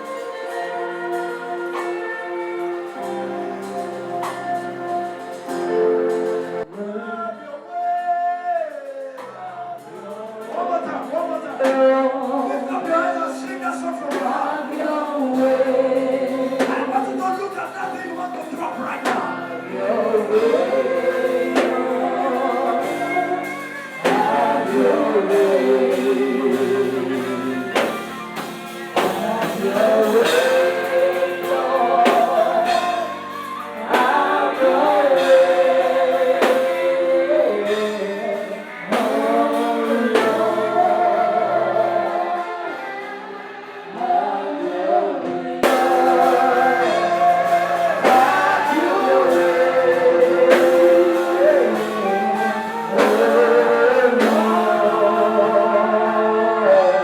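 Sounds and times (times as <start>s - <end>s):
instrumental accompaniment: 0.0s - 7.0s, 9.1s - 57.0s
congregation singing: 0.0s - 57.0s.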